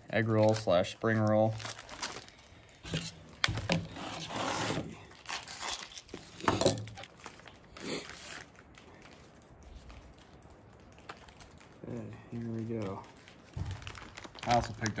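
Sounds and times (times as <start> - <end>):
plastic wrap crinkling and tearing: 0.0 - 15.0.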